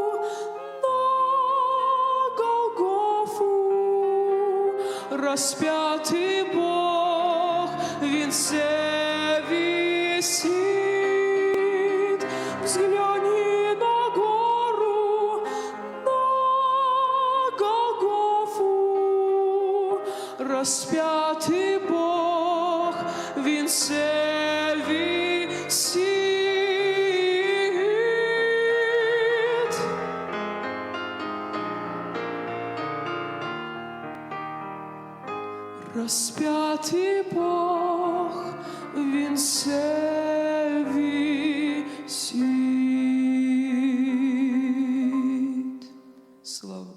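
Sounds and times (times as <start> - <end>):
person singing a hymn: 0.0 - 31.1, 35.8 - 46.9
musical accompaniment: 0.0 - 46.5.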